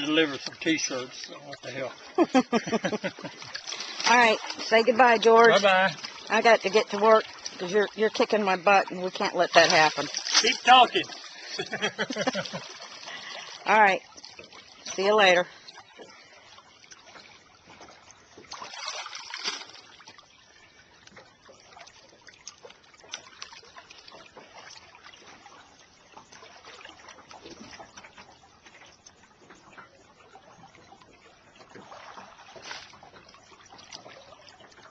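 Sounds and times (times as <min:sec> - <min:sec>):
river water trickling and splashing: 0:00.0 - 0:34.9.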